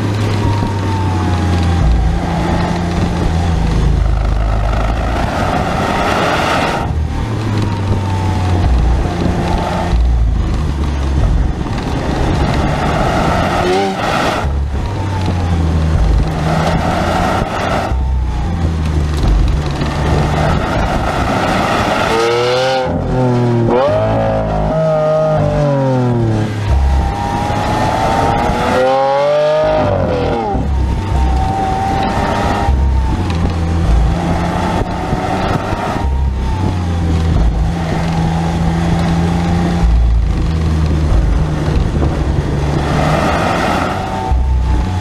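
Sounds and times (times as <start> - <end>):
car engine accelerating hard: 0.0 - 45.0.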